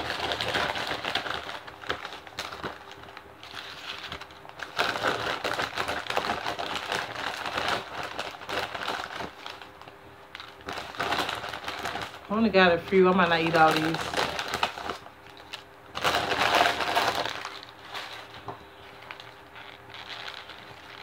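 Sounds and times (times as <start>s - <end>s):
plastic chip bag crinkling: 0.0s - 21.0s.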